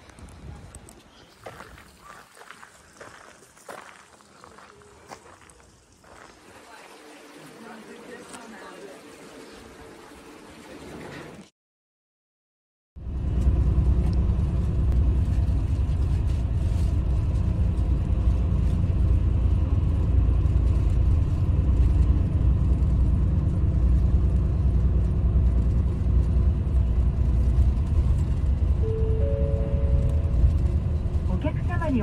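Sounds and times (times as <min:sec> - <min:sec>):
bus engine and tyre rumble: 0:00.0 - 0:06.8, 0:13.0 - 0:32.0.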